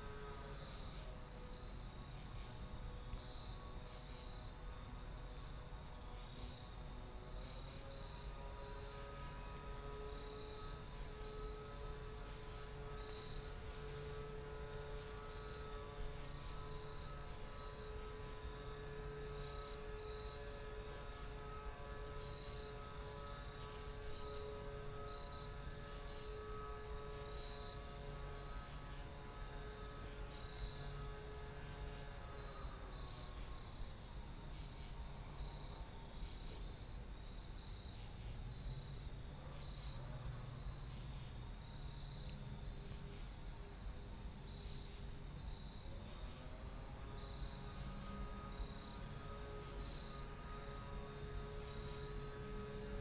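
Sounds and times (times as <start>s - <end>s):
distant engine drone: 0.0s - 53.0s
faint steady hum: 0.0s - 53.0s
insects chirping: 0.0s - 53.0s.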